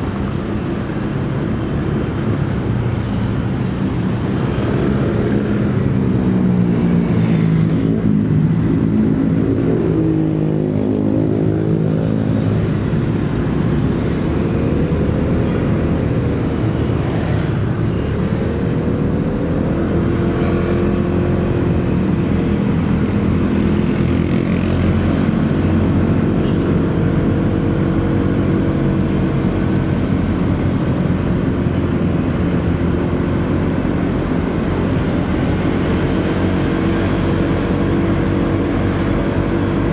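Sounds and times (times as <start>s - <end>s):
road and traffic rumble: 0.0s - 39.9s.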